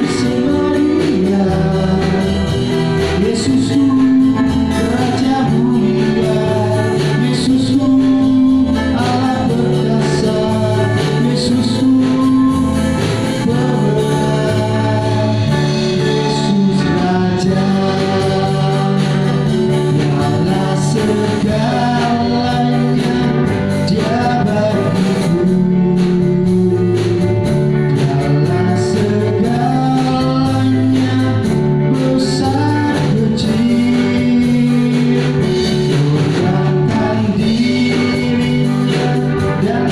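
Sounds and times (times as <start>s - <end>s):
gospel song with band: 0.0s - 39.9s.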